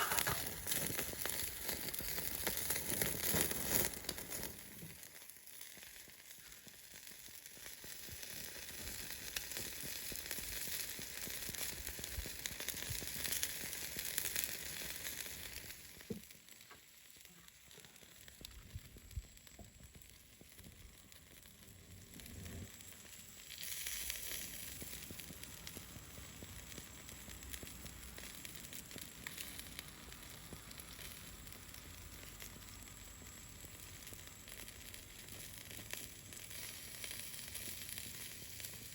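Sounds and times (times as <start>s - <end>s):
chicken wings sizzling on a grill: 0.0s - 38.9s.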